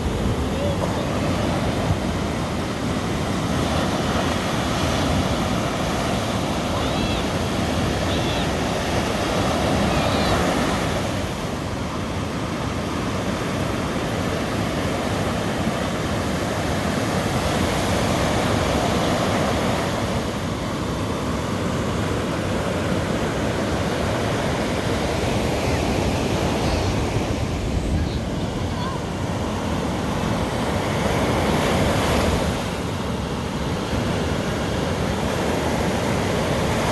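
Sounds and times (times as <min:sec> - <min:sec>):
ocean surf on beach: 0:00.0 - 0:36.9.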